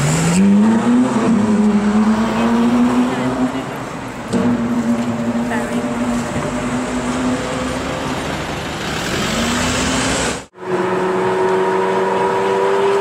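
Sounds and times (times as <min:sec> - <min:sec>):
car engine droning: 0:00.0 - 0:13.0
road noise: 0:00.0 - 0:13.0.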